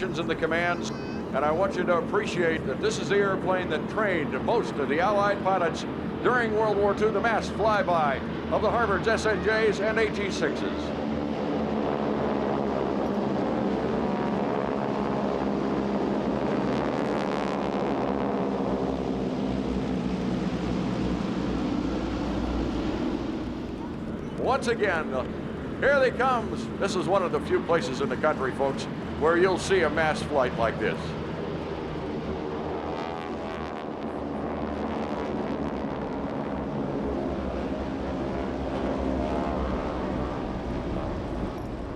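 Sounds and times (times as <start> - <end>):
propeller planes droning past: 0.0 - 41.9.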